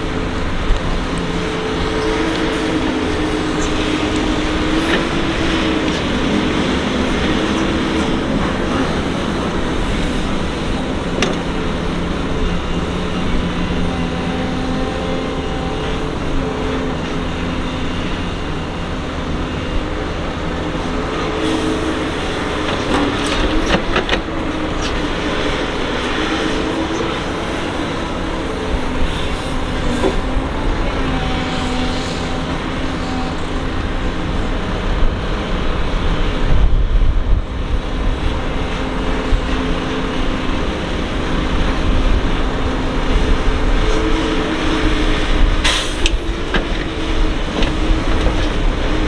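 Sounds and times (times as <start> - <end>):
excavator engine and hydraulics: 0.0 - 49.0.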